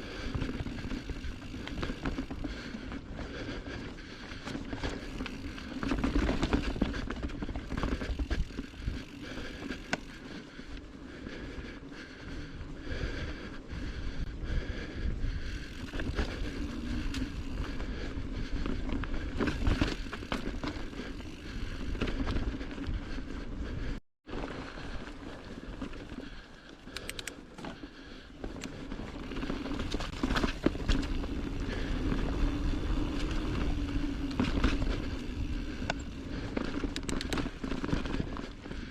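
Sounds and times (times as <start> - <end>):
bike rattling over bumps: 0.0 - 38.9
bike tyres crunching on dirt: 0.0 - 38.9.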